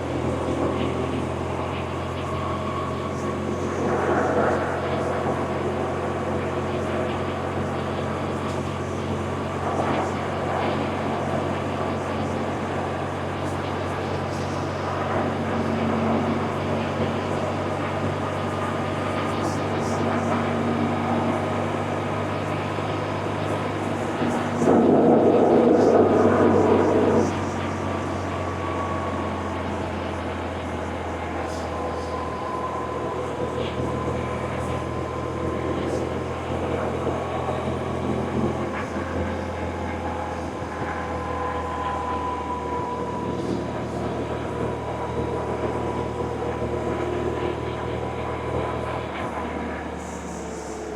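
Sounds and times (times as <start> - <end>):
rush of noise: 0.0 - 50.9.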